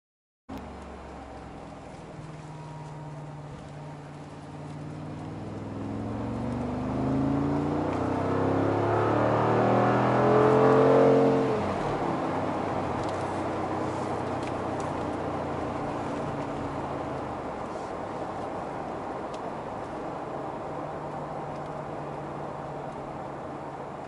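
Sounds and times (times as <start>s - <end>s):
car engine accelerating from inside: 0.6s - 24.0s.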